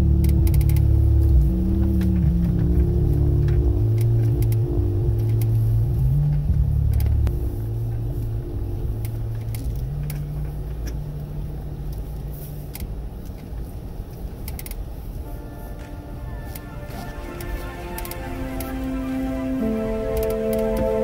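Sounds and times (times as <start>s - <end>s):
off-road engine running: 0.0s - 21.0s.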